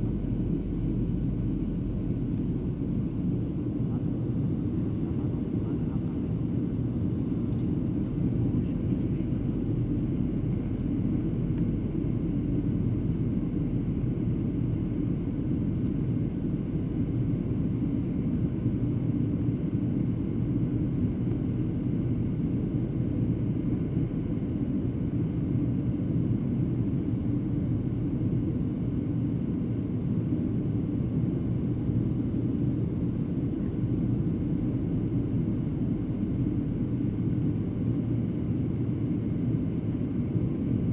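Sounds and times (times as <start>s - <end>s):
jet engine and airflow drone: 0.0s - 40.9s.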